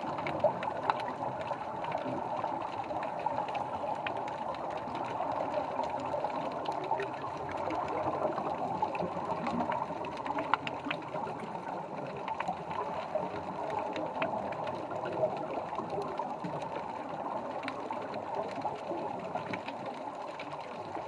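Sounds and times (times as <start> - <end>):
sharp underwater clicks: 0.0 - 21.0
underwater bubbling hiss: 0.0 - 21.0.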